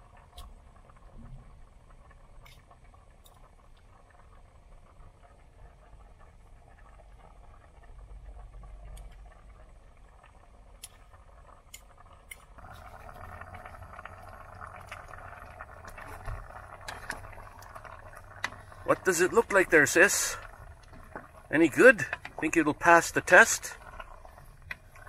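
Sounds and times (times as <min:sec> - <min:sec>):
soup simmering in a pot: 0:00.0 - 0:25.0.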